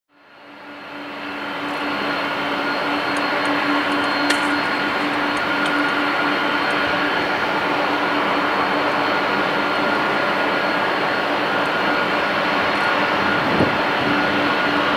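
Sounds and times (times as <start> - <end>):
jet engines whining: 0.3 - 14.9.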